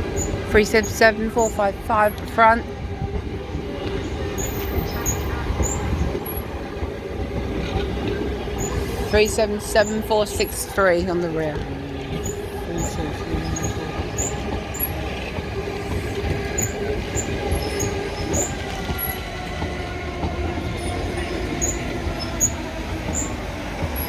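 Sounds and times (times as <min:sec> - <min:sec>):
train wheels rumbling: 0:00.0 - 0:24.0
high wheel squeaks: 0:04.0 - 0:06.9, 0:07.6 - 0:24.0.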